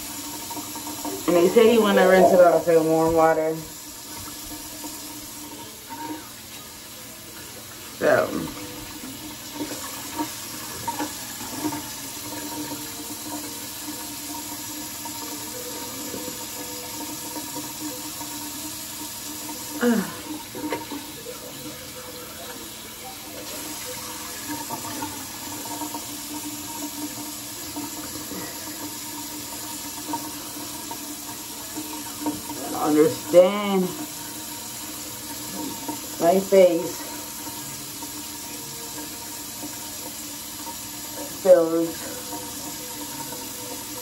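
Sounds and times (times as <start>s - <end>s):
sink tap running: 0.0s - 44.0s.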